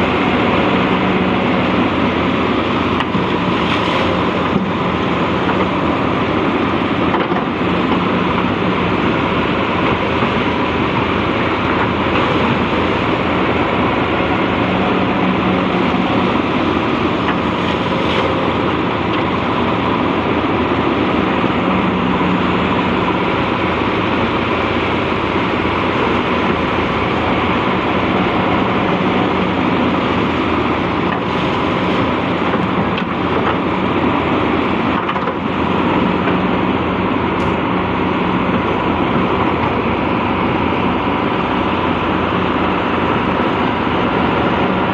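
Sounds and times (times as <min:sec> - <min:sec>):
excavator diesel engine droning: 0:00.0 - 0:44.9.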